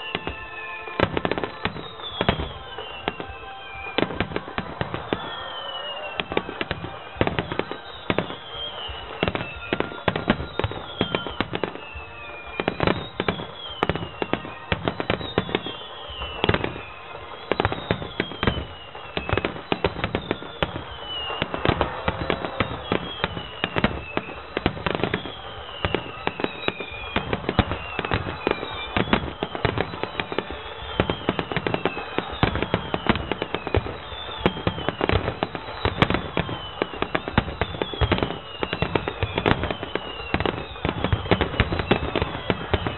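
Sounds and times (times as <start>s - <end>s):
falling firework whistle: 0.0s - 42.9s
fireworks bursts and crackling: 0.0s - 42.9s.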